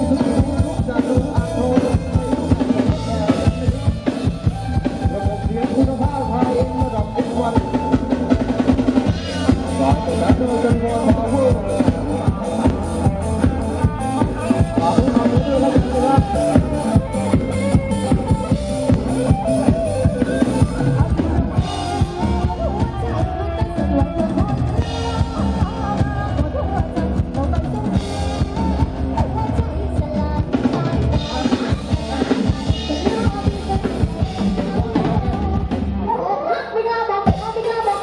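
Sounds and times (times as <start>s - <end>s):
drum kit beat: 0.0s - 35.9s, 37.3s - 38.0s
electric guitar: 0.0s - 38.0s.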